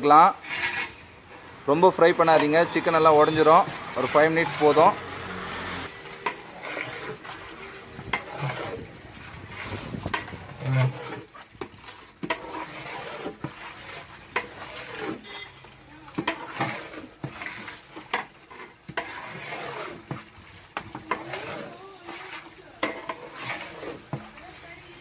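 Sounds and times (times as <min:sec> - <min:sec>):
chicken frying: 0:00.0 - 0:25.0
ladle scraping and clanking pot: 0:00.0 - 0:25.0.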